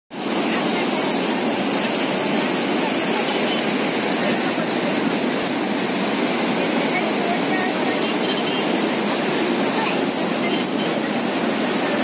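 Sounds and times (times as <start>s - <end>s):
waterfall roar: 0.1s - 12.0s.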